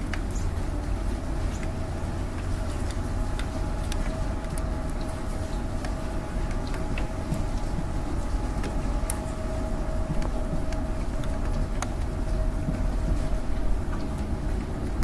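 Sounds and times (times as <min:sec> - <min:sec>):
faint steady hum: 0:00.0 - 0:15.0
low rumble of city traffic: 0:00.0 - 0:15.0
rain drops on window: 0:00.0 - 0:15.0.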